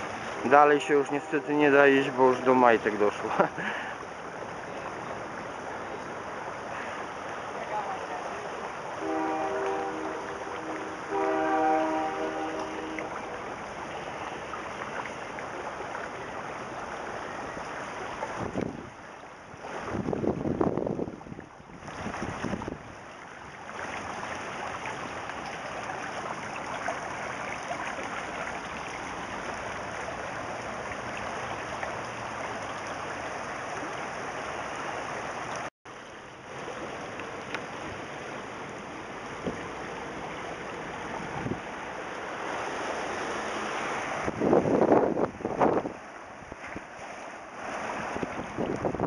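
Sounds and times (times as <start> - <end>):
floodwater rushing: 0.0 - 49.0.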